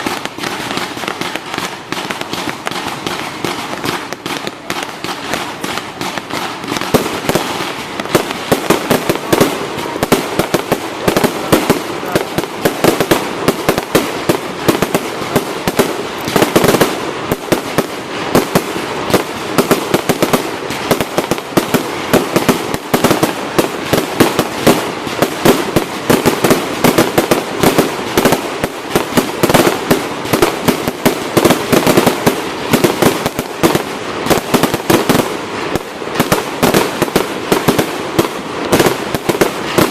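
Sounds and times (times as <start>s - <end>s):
fireworks rapid bangs: 0.0s - 39.9s.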